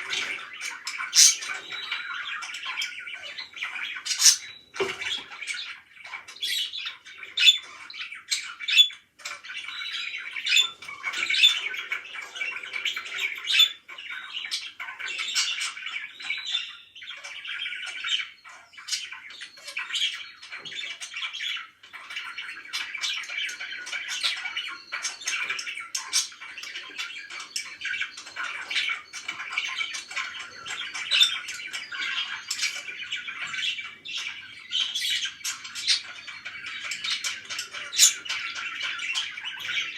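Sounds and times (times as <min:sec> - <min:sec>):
parakeet squawks: 0:00.0 - 0:39.9
parakeets chattering: 0:00.0 - 0:39.9.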